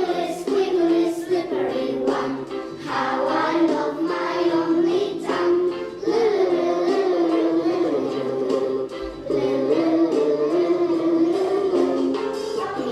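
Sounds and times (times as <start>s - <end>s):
children singing in unison: 0.0s - 12.9s
musical accompaniment: 0.0s - 12.9s.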